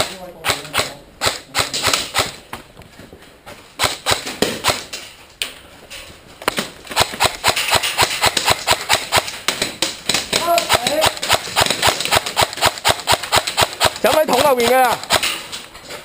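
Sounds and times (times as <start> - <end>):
running footsteps: 1.7 - 16.0.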